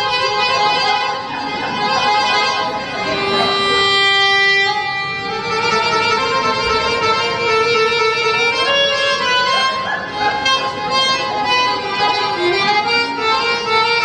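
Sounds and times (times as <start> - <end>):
violin and accordion melody: 0.0 - 14.0.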